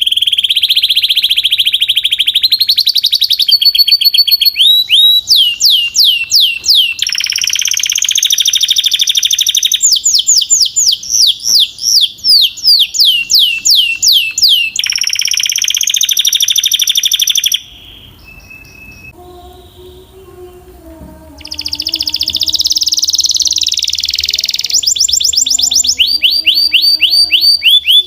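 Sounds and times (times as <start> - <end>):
faint bird chirps: 0.0 - 20.4, 21.2 - 28.0
canary singing: 0.0 - 28.0.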